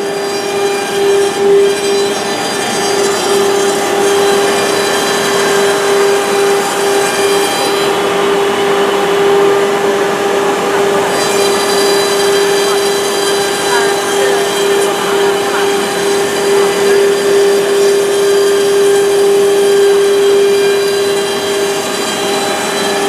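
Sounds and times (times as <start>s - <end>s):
woodworking machine whining: 0.0s - 23.0s.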